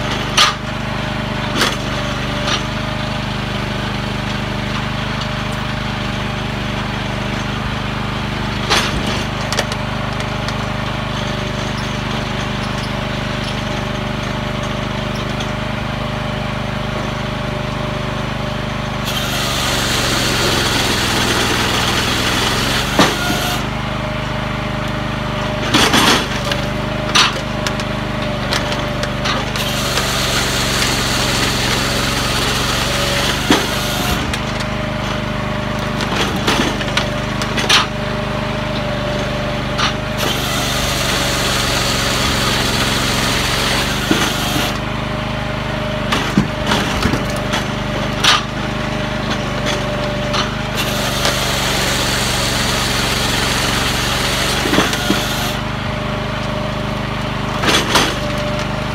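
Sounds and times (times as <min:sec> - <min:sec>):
firewood processor engine running: 0:00.0 - 0:58.9.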